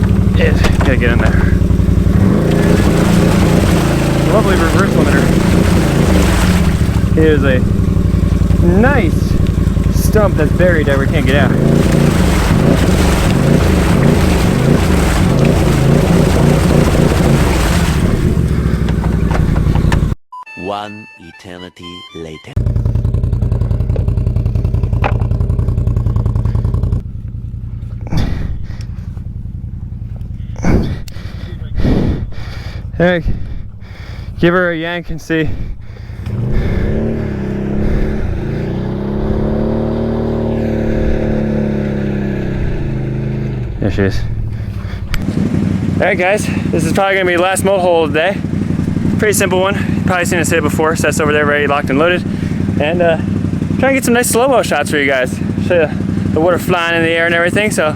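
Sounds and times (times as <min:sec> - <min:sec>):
atv engine revving: 0:00.0 - 0:20.2, 0:22.6 - 0:57.9.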